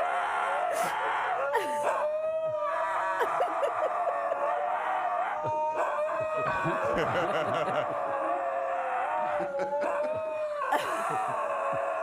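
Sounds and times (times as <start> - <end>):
huskies howling: 0.0 - 12.0.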